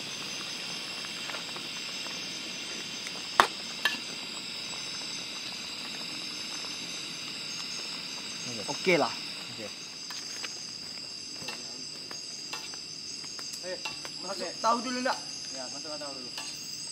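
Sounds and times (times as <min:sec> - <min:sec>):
pot of food simmering: 0:00.0 - 0:14.0.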